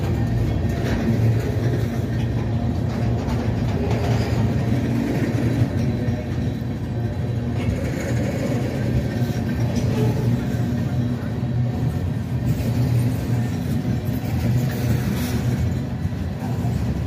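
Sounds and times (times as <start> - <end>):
train rumbling by: 0.0 - 17.0.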